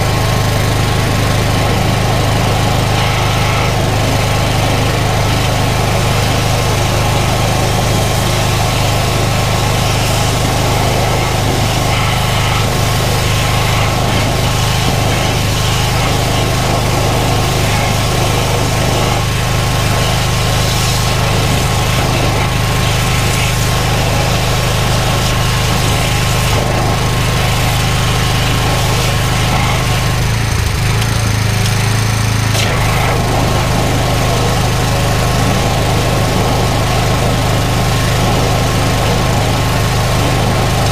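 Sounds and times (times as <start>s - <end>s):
engine running: 0.0s - 40.9s
water jet hissing: 0.0s - 40.9s.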